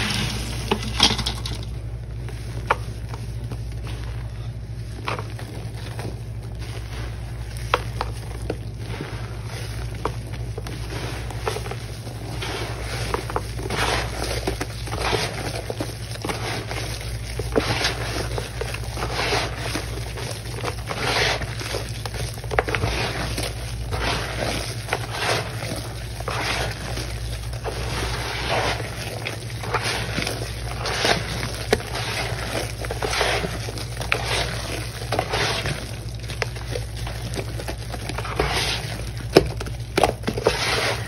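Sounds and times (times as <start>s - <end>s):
steady low hum: 0.0s - 41.0s
hands squishing wet paste: 1.7s - 41.0s.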